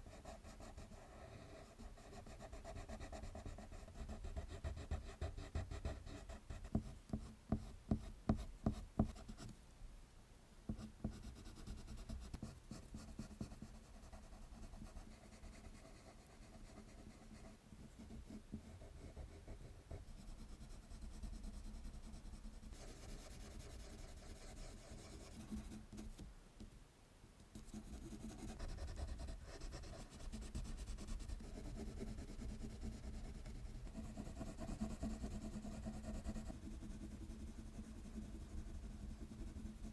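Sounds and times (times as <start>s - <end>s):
colored pencil scratching on paper: 0.0s - 9.5s, 10.7s - 26.2s, 27.5s - 39.9s.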